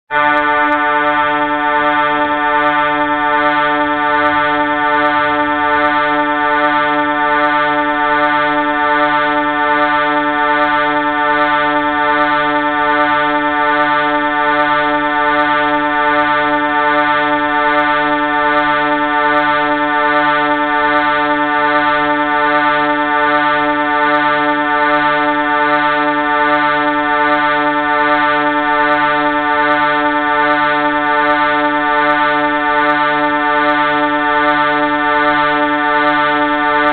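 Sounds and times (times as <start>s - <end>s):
train horn chord: 0.1s - 36.9s.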